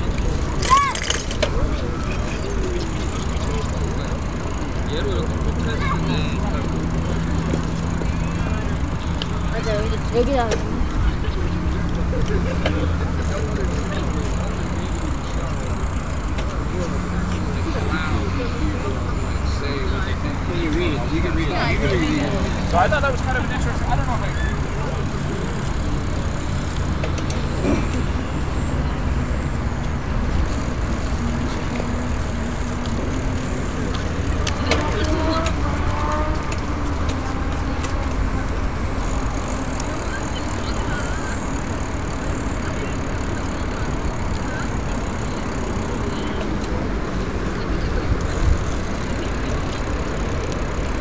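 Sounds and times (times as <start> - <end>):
bicycle riding rumble: 0.0 - 51.0.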